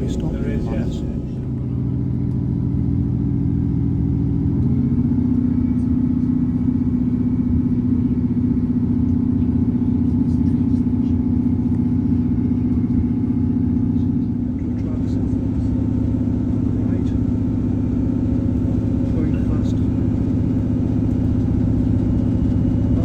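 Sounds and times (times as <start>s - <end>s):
train engine droning: 0.0s - 2.8s, 5.6s - 23.0s.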